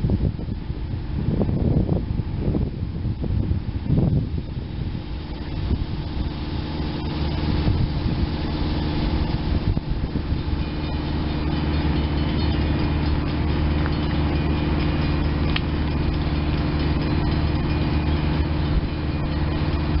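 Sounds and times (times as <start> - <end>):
electric train humming: 3.6 - 20.0
faint high whines: 3.8 - 20.0.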